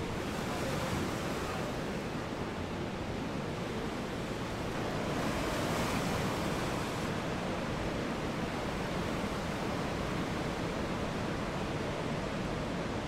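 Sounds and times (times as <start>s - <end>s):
heavy surf waves breaking: 0.0s - 13.0s.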